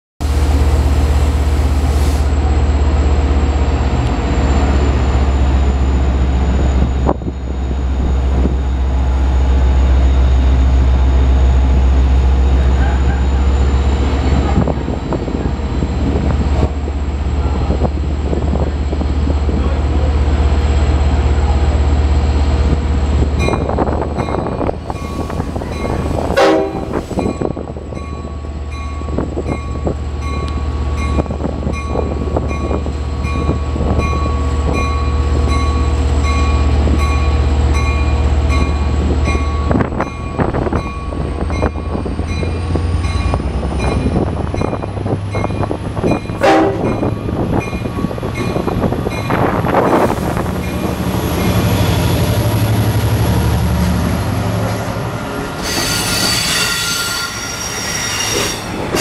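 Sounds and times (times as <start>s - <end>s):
locomotive engine rumbling: 0.2s - 59.0s.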